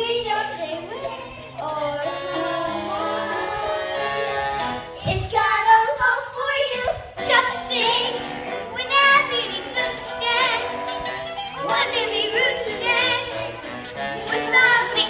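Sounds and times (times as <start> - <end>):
children singing: 0.0 - 15.0
musical accompaniment: 0.0 - 15.0.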